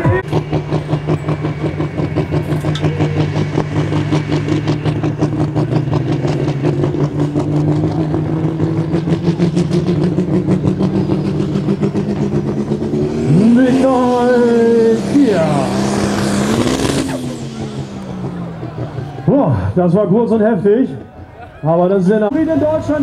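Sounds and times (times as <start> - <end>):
diesel engine pulsing: 0.0 - 23.0.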